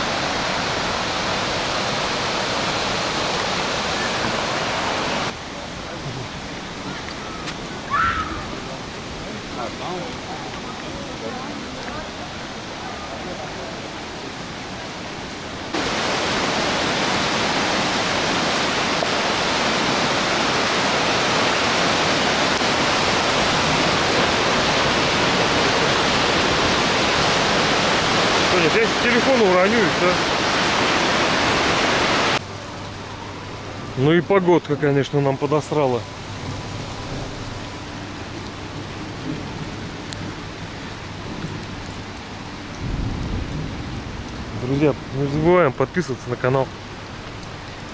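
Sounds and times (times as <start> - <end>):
fast-flowing river water rushing: 0.0 - 41.2
steady rain falling: 0.0 - 47.9.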